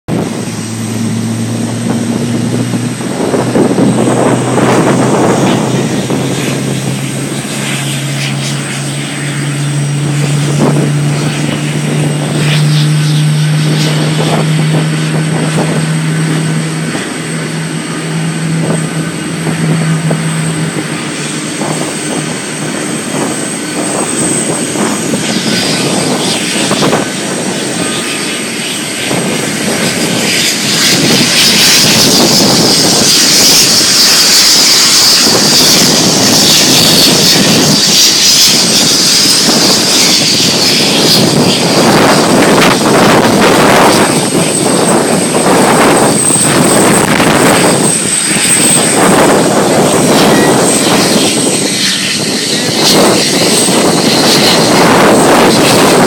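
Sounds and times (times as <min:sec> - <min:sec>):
aircraft engines rushing: 0:00.0 - 0:56.0
low hum: 0:00.1 - 0:56.0.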